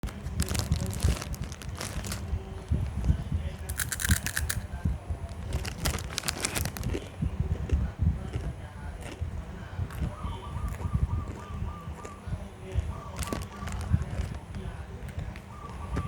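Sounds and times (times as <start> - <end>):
crunching and crackling clicks: 0.0 - 9.3, 10.7 - 16.0
steady low rumble: 0.0 - 16.0.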